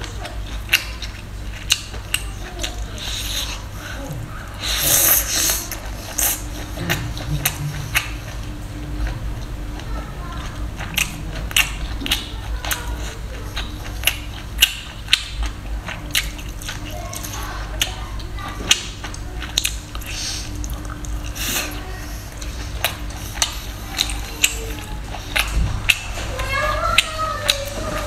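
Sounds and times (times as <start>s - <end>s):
person chewing: 0.0s - 28.0s
steady low hum: 0.0s - 28.0s.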